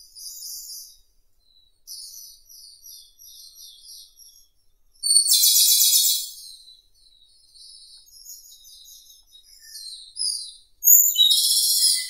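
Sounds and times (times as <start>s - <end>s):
bird singing fast trills: 1.9s - 12.0s.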